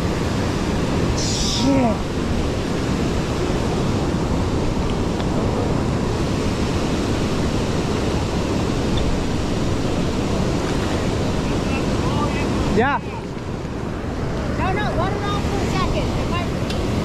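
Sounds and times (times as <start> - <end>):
river rushing over a weir: 0.0 - 17.0.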